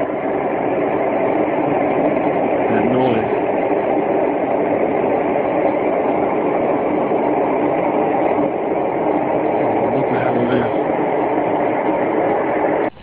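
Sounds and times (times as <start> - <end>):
loud rumbling drone: 0.0 - 13.0.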